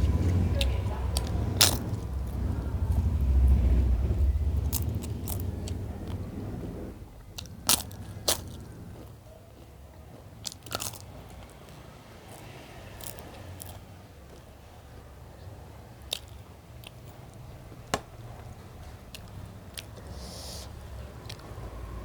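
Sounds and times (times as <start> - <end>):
food crunching: 0.0 - 6.2, 7.2 - 22.0
chewing food: 0.0 - 6.3, 7.2 - 22.0.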